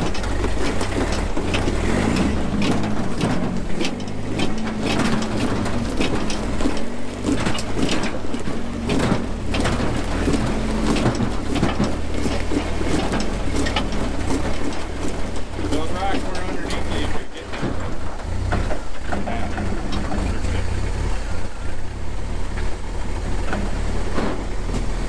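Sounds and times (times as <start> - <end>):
rocks crunching under tyres: 0.0 - 25.0
truck engine under load: 0.0 - 25.0.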